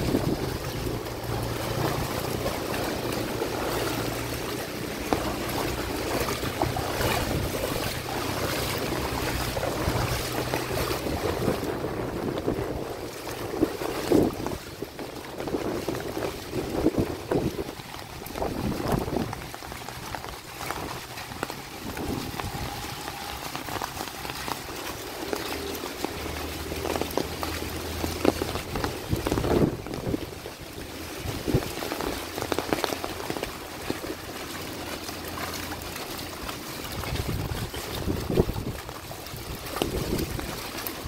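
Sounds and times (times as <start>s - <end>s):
traffic engine hum: 0.0s - 36.6s
rain falling: 0.0s - 41.0s
water splashing: 0.0s - 41.0s.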